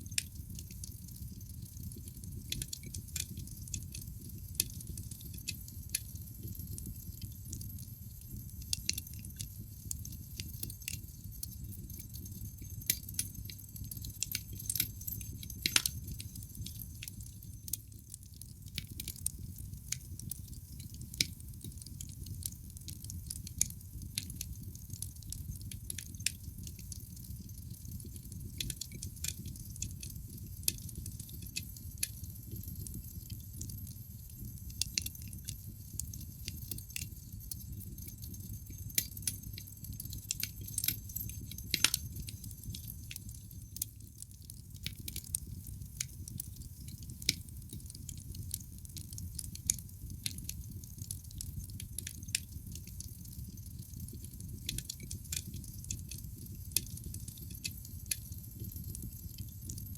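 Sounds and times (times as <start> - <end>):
low rumble of flames: 0.0 - 59.8
logs crackling and popping: 0.1 - 59.8.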